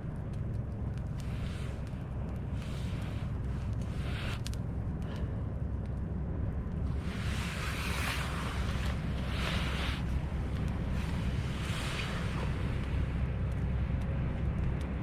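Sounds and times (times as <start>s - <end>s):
campfire crackling: 0.0s - 15.0s
wind rumble on microphone: 0.0s - 15.0s.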